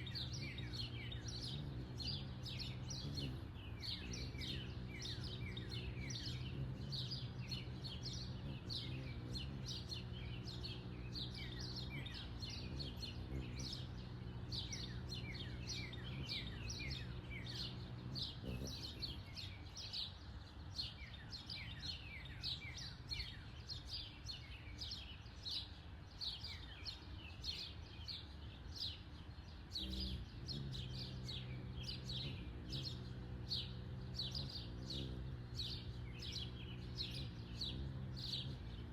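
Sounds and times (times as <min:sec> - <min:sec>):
low mechanical hum: 0:00.0 - 0:38.9
songbirds chirping: 0:00.0 - 0:38.9.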